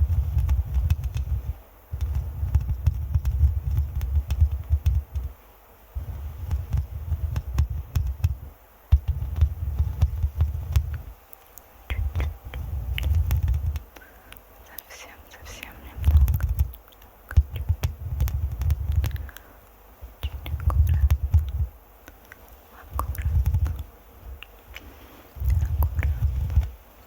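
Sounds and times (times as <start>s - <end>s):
scratching on a microphone: 0.0s - 5.4s, 6.0s - 14.0s, 14.7s - 19.4s, 20.0s - 26.9s.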